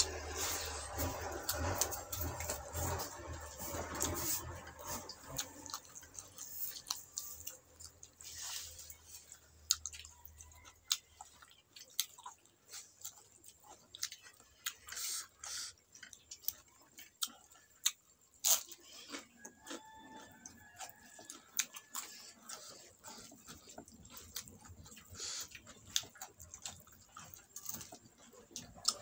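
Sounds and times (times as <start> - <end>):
person chewing and lip smacking: 0.0 - 29.0.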